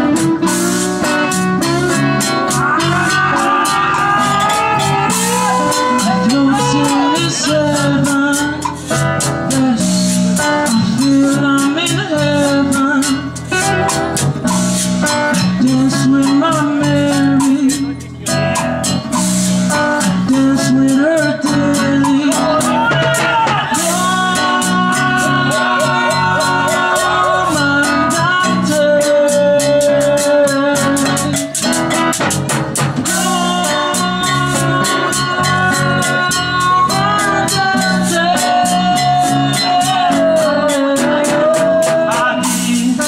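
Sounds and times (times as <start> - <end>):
man singing: 0.0 - 13.4, 15.4 - 18.6, 20.0 - 31.7, 33.0 - 43.0
strummed acoustic guitar: 0.0 - 43.0.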